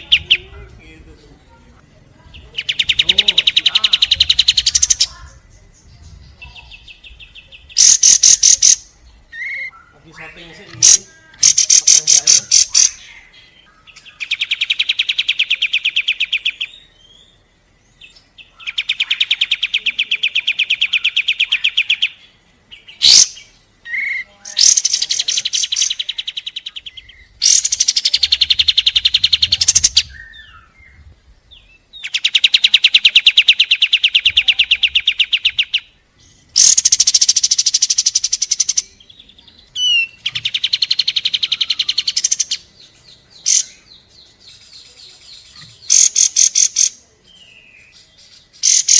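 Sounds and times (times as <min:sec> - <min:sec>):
bird singing fast trills: 0:00.0 - 0:00.7, 0:02.1 - 0:48.9.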